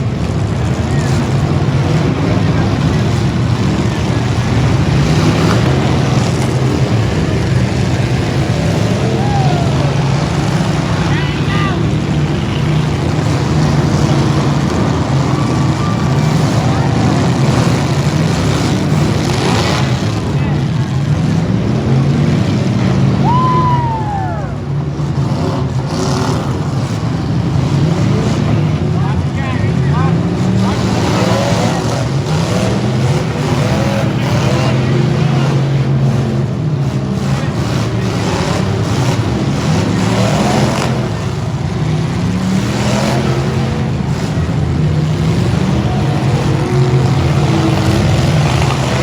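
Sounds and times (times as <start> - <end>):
car engines droning loudly: 0.0 - 49.0.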